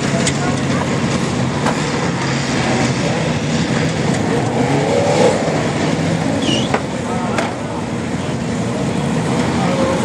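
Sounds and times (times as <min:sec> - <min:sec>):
truck engines droning: 0:00.0 - 0:10.0.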